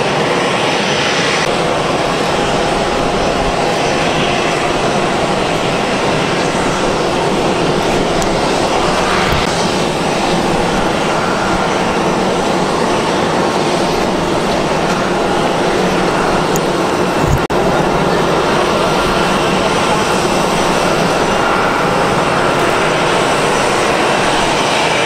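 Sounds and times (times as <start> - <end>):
jet engines at taxi power: 0.0 - 25.0.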